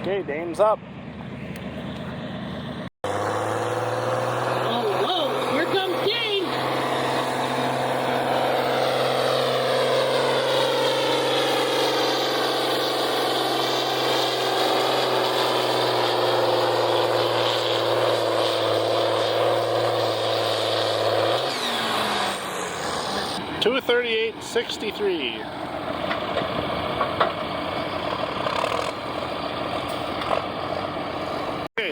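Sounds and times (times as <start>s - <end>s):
tractor engine under full load: 0.0s - 31.9s.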